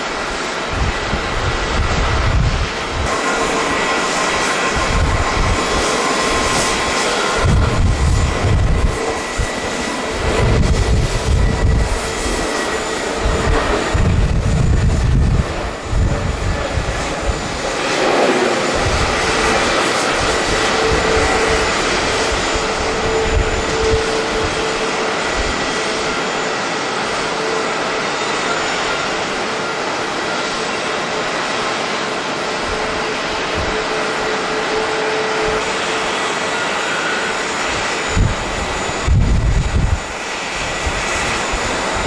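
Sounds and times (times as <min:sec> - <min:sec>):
wind buffeting microphone: 0:00.0 - 0:29.8, 0:32.5 - 0:42.0
jet engines at takeoff: 0:00.0 - 0:42.0.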